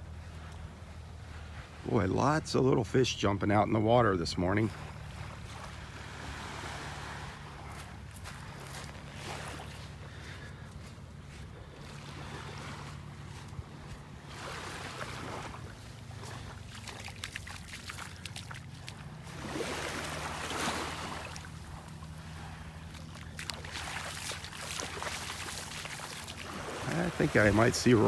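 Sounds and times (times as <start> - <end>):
small waves lapping on sand: 0.0 - 28.0.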